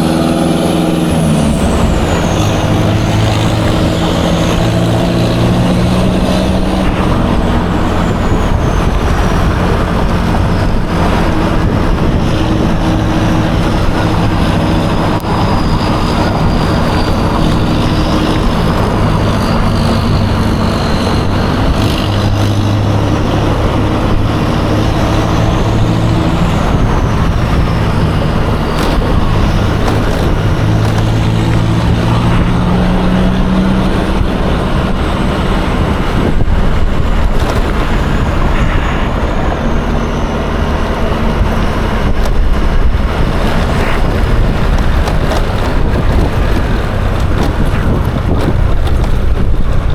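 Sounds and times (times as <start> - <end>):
road and wind noise: 0.0 - 49.9
scooter engine running: 0.0 - 49.9.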